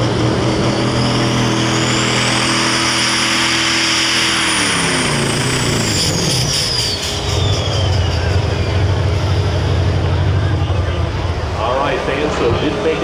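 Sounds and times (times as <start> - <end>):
diesel engine at full throttle: 0.0 - 13.0
high turbo whine: 0.0 - 13.0.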